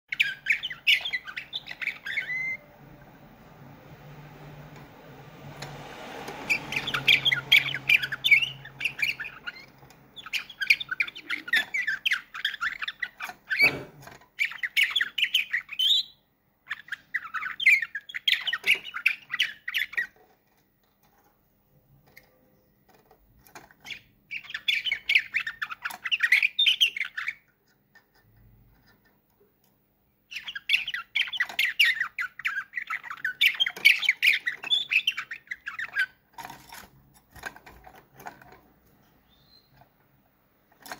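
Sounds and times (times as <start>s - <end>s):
canary singing chirps and trills: 0.1s - 40.9s.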